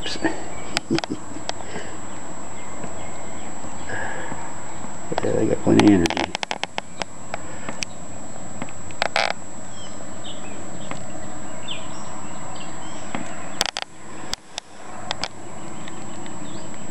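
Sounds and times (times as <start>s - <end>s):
faint bird chirps: 0.0s - 16.9s
outdoor background hiss: 0.0s - 16.9s.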